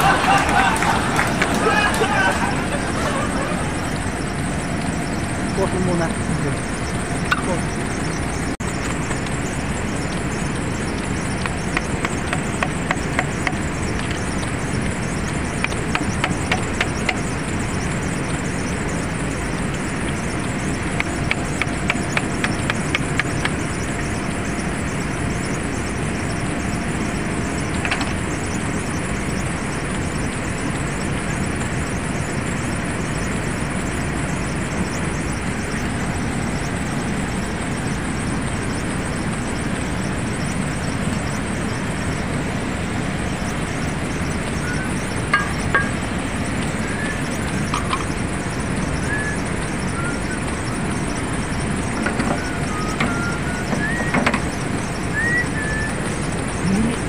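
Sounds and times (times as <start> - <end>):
rushing background noise: 0.0 - 57.0.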